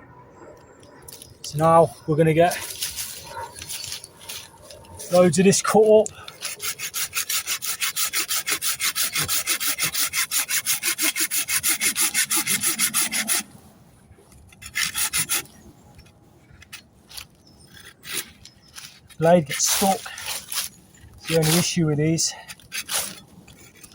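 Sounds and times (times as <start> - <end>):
hand saw cutting a branch: 1.1 - 13.5, 14.3 - 15.6, 16.6 - 23.9.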